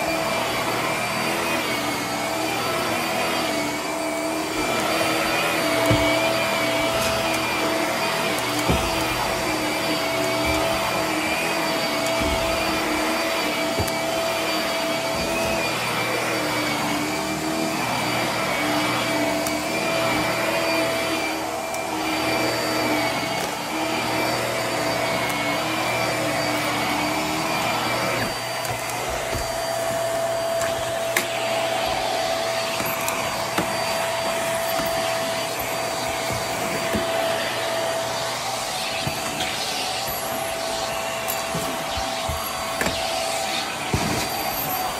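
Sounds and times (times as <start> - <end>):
stick vacuum motor whine: 0.0 - 44.9.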